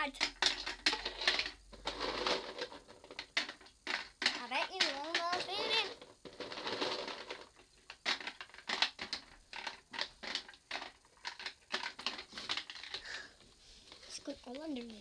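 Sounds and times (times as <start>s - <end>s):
plastic toys clicking and clattering: 0.0s - 15.0s.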